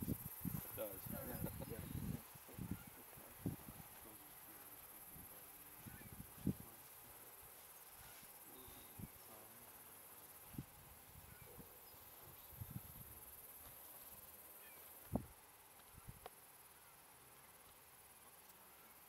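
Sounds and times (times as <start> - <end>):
high insect hum: 0.0 - 19.0.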